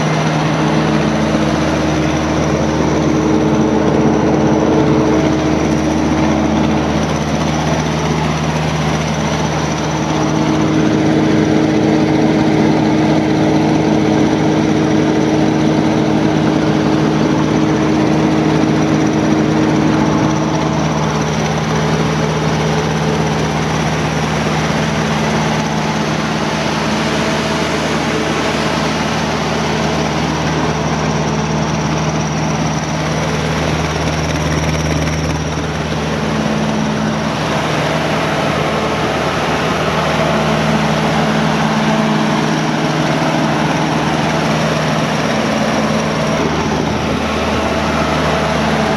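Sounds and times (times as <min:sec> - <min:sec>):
diesel generator running: 0:00.0 - 0:48.9.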